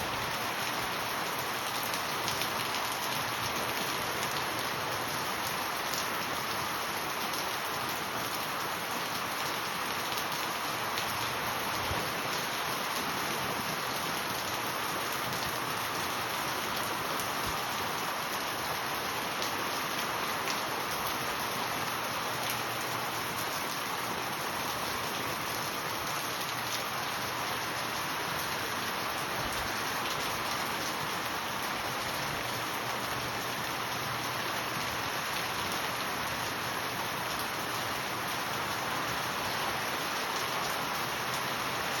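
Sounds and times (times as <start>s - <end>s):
steady rain hiss: 0.0s - 42.0s.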